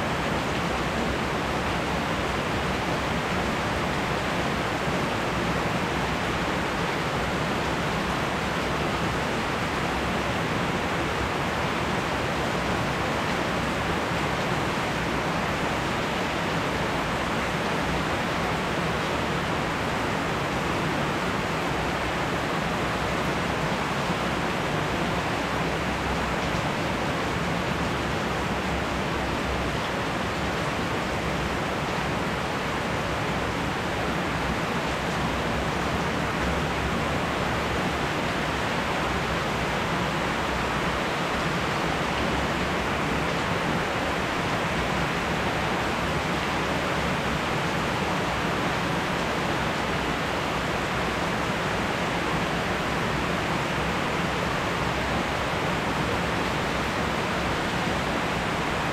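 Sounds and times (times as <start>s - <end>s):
rain falling on leafy trees: 0.0s - 58.9s.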